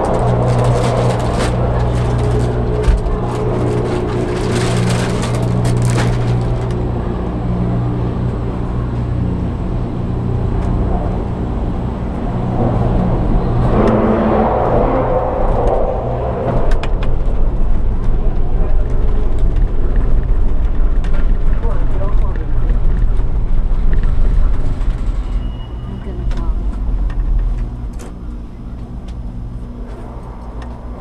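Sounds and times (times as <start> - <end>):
cable car machinery humming: 0.0 - 31.0
low rumble: 0.0 - 31.0.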